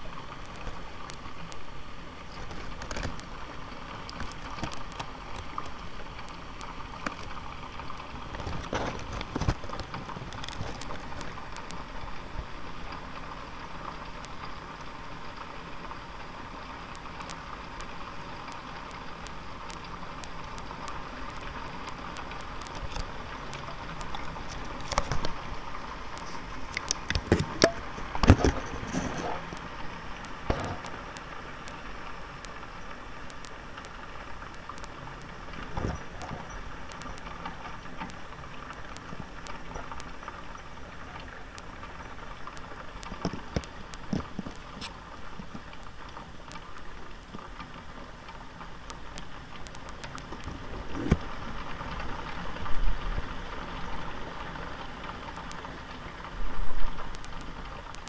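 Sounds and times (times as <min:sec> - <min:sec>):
hail falling on hard surfaces: 0:02.4 - 0:58.0.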